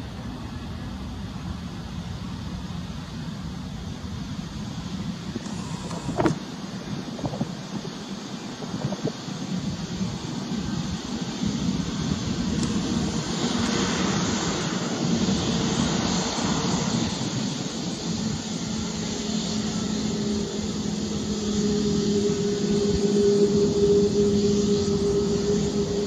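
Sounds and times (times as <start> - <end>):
jet engines on runway: 0.0 - 26.0.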